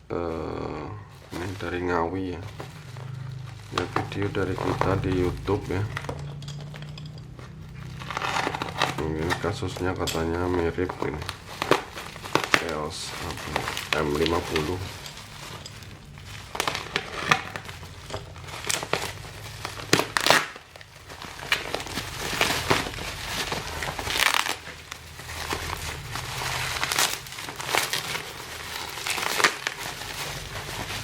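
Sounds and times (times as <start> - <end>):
packing material crinkling: 0.0 - 31.0.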